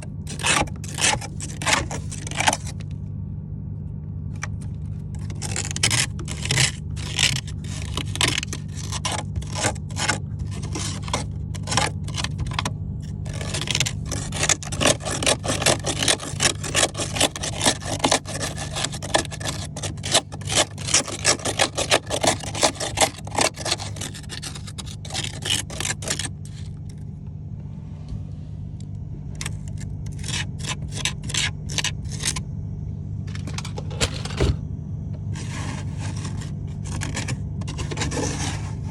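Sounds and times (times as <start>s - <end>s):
scraping frost from freezer: 0.0s - 3.1s, 4.2s - 27.1s, 27.8s - 32.5s, 33.2s - 38.9s
steady low hum: 0.0s - 38.9s.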